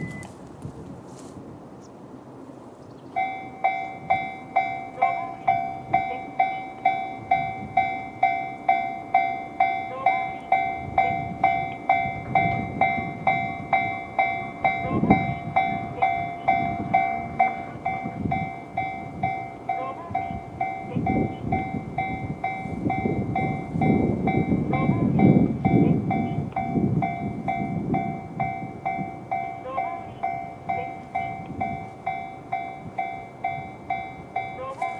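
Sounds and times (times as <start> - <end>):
level-crossing warning bell: 0.0 - 0.3, 3.1 - 34.9
approaching train rumble: 0.0 - 34.9.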